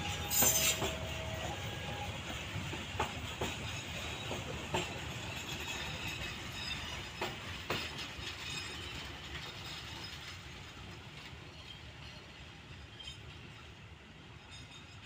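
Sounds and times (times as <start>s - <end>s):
wheels clacking over rail joints: 0.0s - 13.7s
train coaches rumbling past: 0.0s - 15.0s.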